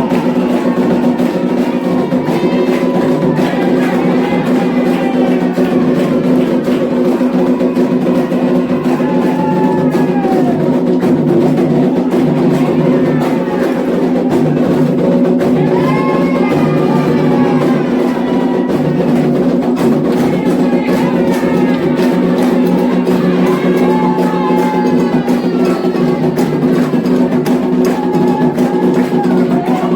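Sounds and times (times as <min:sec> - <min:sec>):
hand drums beating steady rhythm: 0:00.0 - 0:29.9
voices singing a chant: 0:00.0 - 0:29.9.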